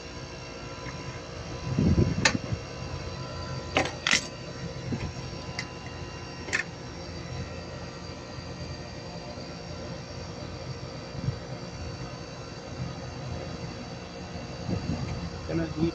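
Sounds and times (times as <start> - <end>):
air conditioner humming: 0.0 - 15.9.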